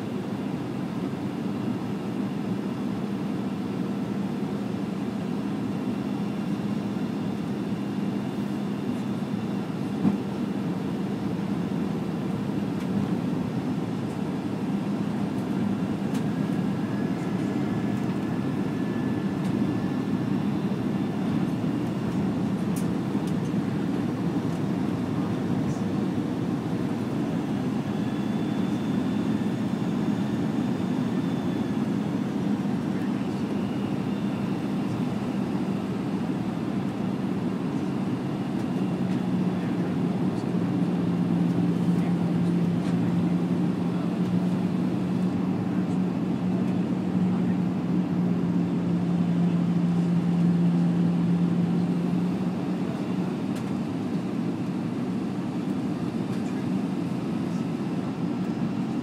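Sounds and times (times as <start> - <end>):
airliner cabin rumble: 1.0 - 58.9.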